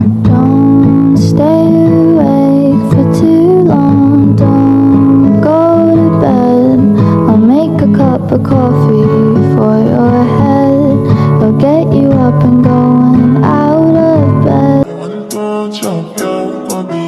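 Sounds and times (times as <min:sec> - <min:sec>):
song with plucked guitar: 0:00.0 - 0:17.0.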